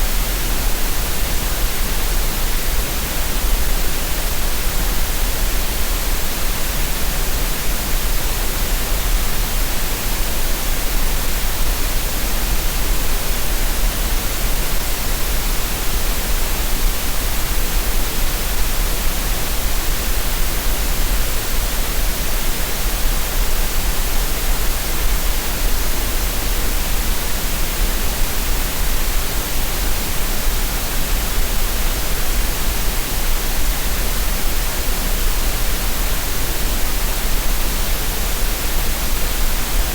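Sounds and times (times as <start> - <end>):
steady green noise hiss: 0.0 - 39.9.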